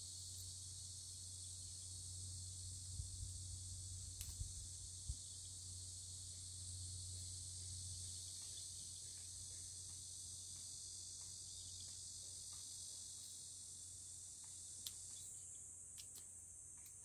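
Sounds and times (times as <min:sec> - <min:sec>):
insects chorus: 0:00.0 - 0:17.0
low steady hum: 0:00.0 - 0:17.0.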